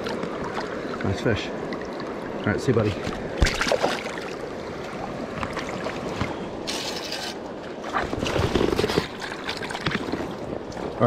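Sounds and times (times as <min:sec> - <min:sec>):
water sloshing around legs: 0:00.0 - 0:11.0.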